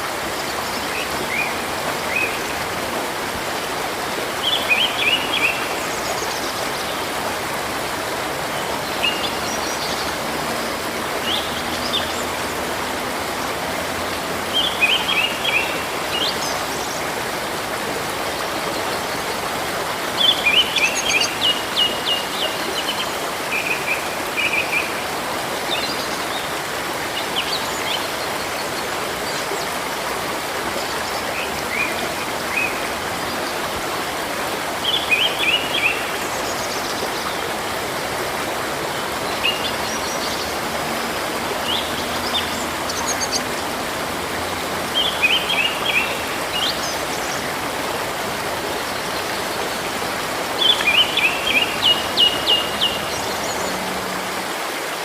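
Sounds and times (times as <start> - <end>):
river rushing: 0.0 - 55.0
songbirds chirping: 0.0 - 55.0.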